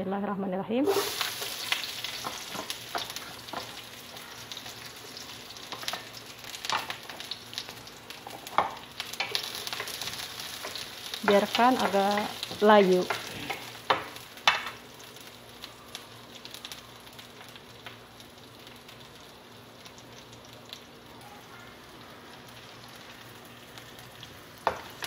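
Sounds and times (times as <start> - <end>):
shallots sizzling in hot oil: 0.8 - 25.0.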